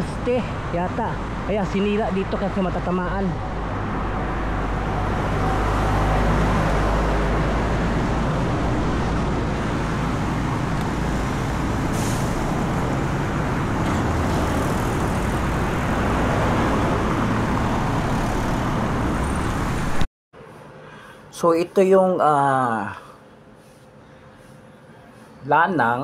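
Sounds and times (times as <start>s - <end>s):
tyres on road: 0.0s - 22.2s
vehicle engines: 0.0s - 22.2s.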